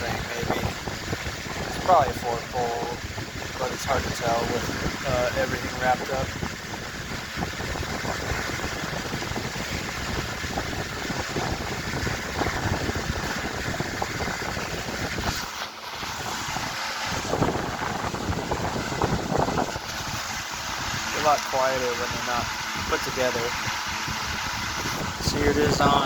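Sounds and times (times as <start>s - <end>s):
electric fans blowing air: 0.0s - 26.0s
fan motors humming: 0.0s - 26.0s.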